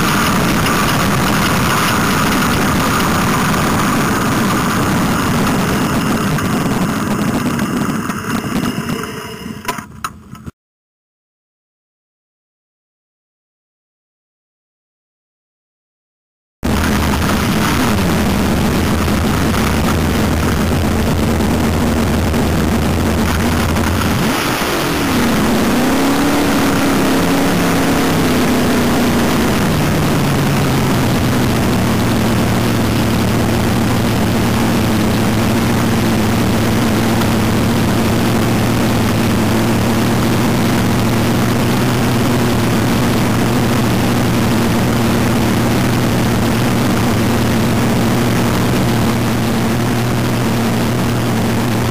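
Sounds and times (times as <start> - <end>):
loud engine idling and revving: 0.0 - 9.7, 16.7 - 51.9.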